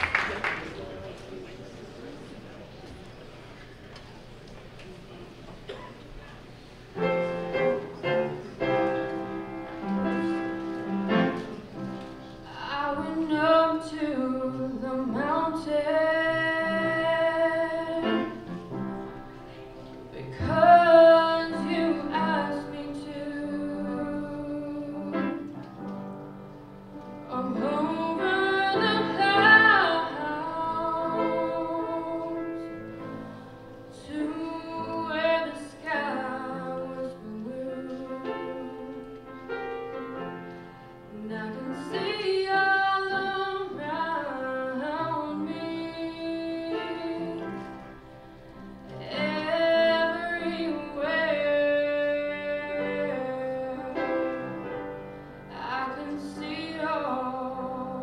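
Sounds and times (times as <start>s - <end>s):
musical accompaniment: 6.9s - 58.0s.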